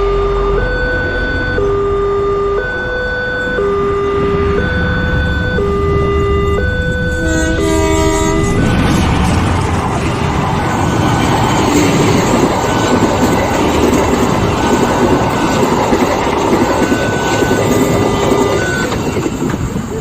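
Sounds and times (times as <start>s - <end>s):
train wheels rumbling and rattling: 0.0s - 20.0s.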